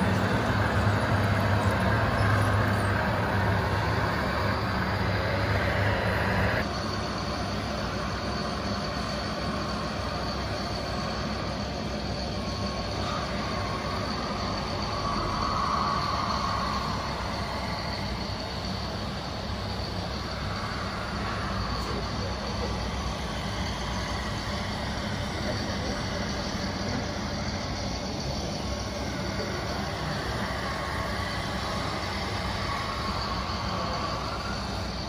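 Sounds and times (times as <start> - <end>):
model vehicles mechanical drone: 0.0 - 35.0
thin high whine: 0.0 - 35.0.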